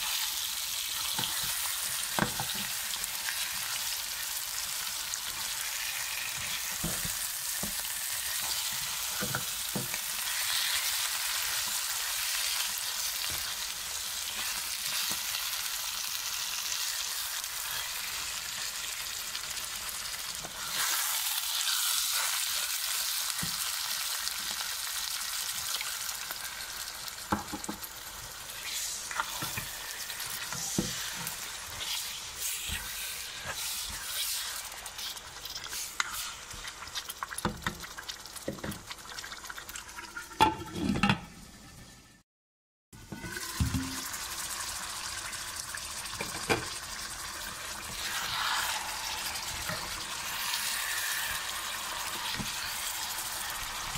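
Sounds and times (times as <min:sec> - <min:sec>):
chicken sizzling in hot oil: 0:00.0 - 0:40.5, 0:43.0 - 0:53.9.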